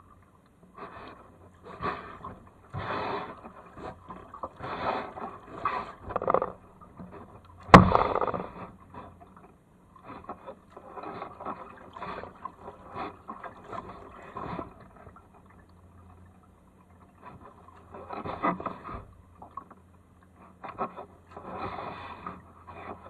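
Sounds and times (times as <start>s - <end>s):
kayak paddle strokes through water: 0.0s - 23.0s.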